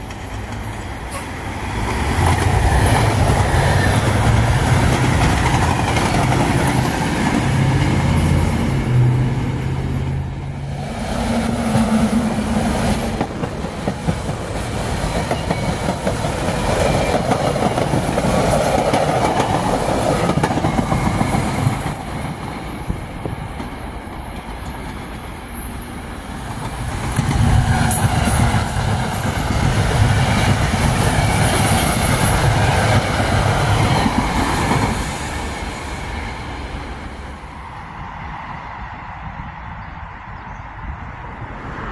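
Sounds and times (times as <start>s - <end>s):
train wheels clattering on rails: 0.0s - 9.8s, 11.0s - 36.9s.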